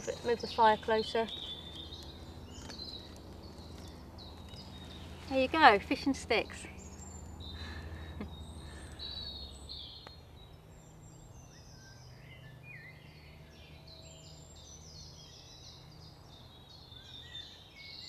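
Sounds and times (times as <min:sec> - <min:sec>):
birds singing: 0:00.0 - 0:18.0.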